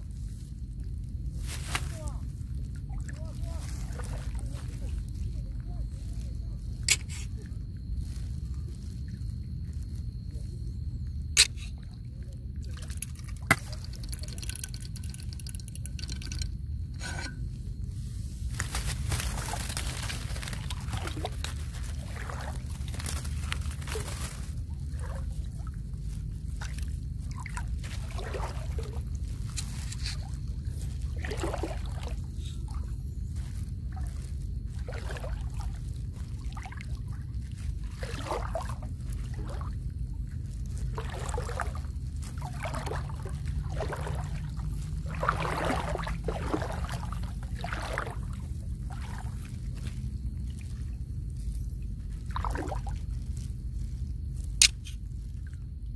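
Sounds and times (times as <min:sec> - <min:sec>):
water sloshing and splashing: 0:00.0 - 0:55.9.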